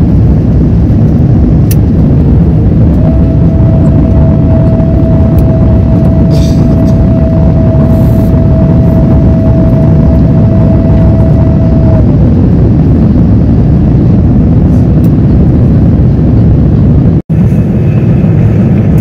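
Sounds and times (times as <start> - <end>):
jet engine cabin noise: 0.0 - 19.0
steady hum: 0.0 - 19.0.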